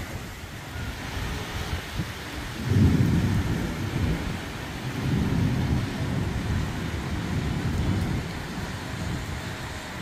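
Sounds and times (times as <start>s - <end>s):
rain hiss: 0.0s - 10.0s
rolling thunder: 0.8s - 10.0s.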